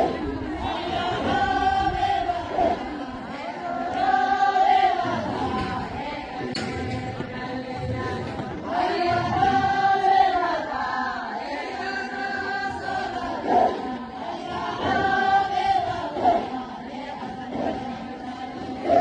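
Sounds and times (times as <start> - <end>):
women chanting devotional song: 0.0 - 19.0.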